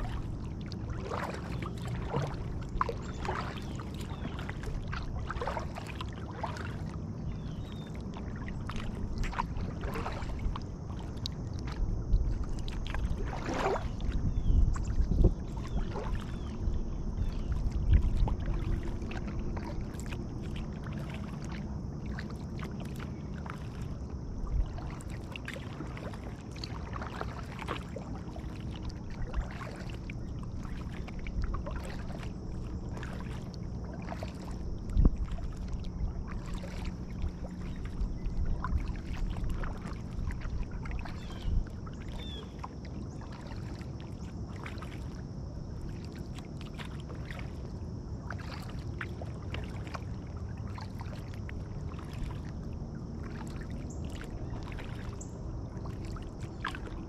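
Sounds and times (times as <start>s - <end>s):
paddle splashing water: 0.0s - 57.0s.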